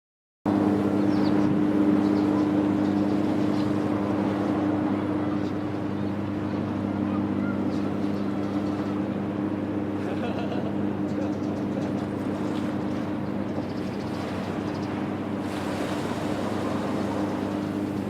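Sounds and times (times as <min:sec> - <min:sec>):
low mechanical hum: 0:00.5 - 0:18.0
outdoor noise: 0:00.5 - 0:18.0.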